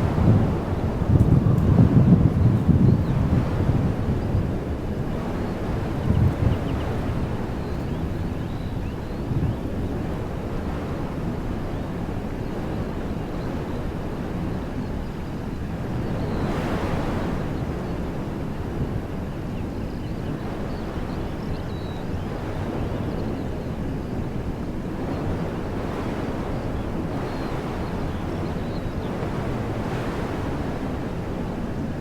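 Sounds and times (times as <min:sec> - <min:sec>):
wind blowing through trees: 0:00.0 - 0:32.0.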